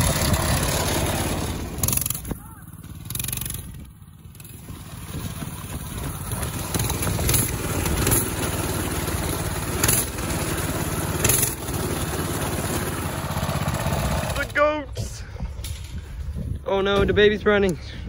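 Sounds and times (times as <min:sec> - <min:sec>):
small gas engine running: 0:00.0 - 0:16.4.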